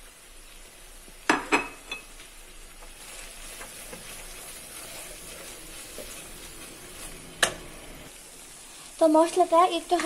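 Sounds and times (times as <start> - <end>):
onions sizzling in hot fat: 0.0 - 10.0.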